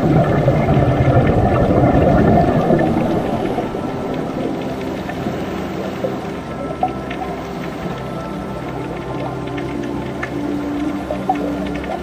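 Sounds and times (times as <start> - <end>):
sea waves washing over rocks: 0.0 - 12.0.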